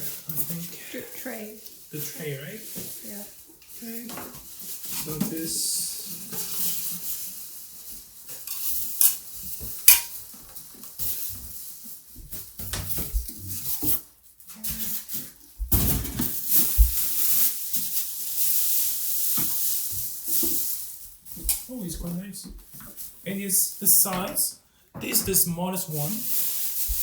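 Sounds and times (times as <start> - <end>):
loud rustling of packaging: 0.0 - 21.8, 25.3 - 27.0.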